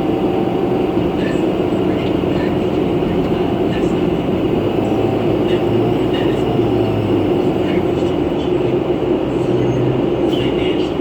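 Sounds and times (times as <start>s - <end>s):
bus interior drone: 0.0s - 11.0s.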